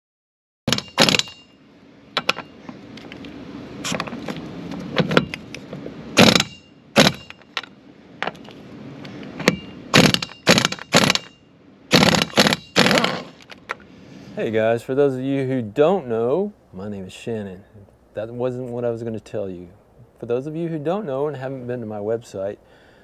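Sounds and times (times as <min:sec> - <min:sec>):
faint steady noise: 0:00.7 - 0:23.0.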